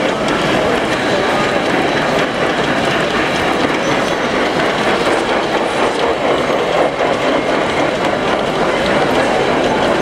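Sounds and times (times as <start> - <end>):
model train rolling on track: 0.0 - 10.0.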